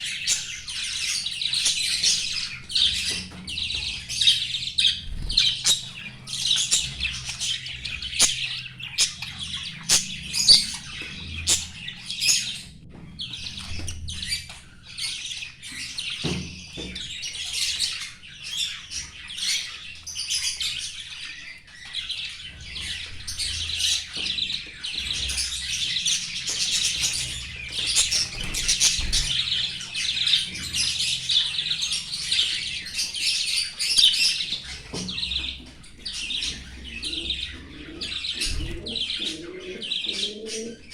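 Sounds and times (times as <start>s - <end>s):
cage birds chirping and squawking: 0.0s - 40.9s.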